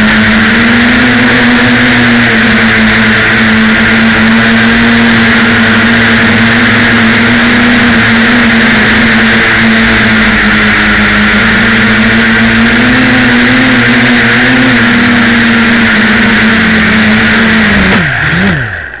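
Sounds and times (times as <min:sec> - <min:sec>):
drone motors buzzing: 0:00.0 - 0:19.0.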